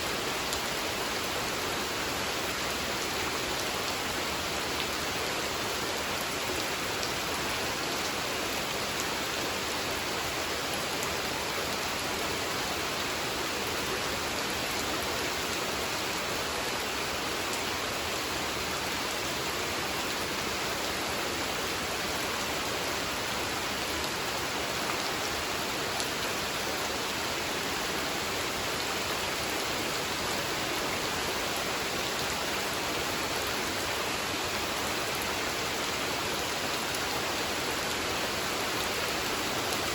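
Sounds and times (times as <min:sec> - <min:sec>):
rain hissing on water: 0:00.0 - 0:39.9.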